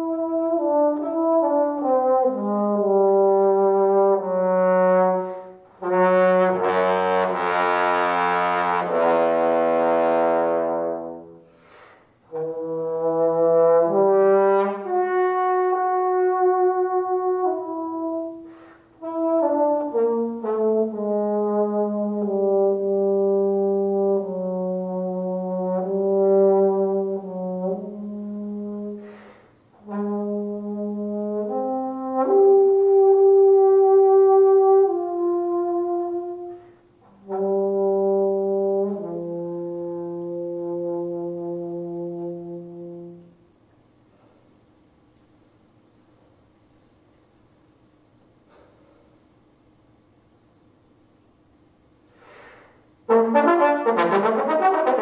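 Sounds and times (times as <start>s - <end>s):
solo trombone: 0.0s - 43.6s, 52.2s - 55.0s.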